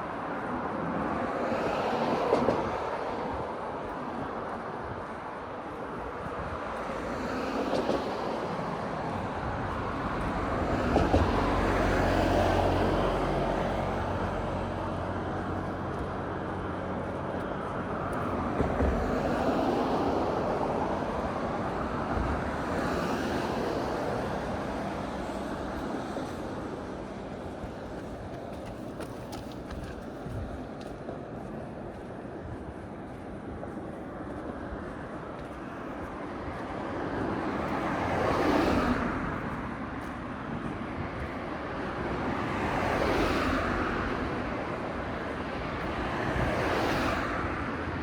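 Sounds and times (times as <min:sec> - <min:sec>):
cars passing on a street: 0:00.0 - 0:48.0.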